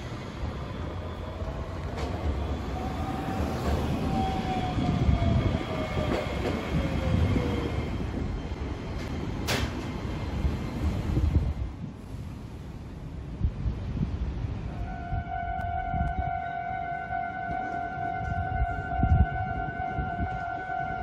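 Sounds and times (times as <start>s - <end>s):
tram rumbling past: 0.0s - 21.0s.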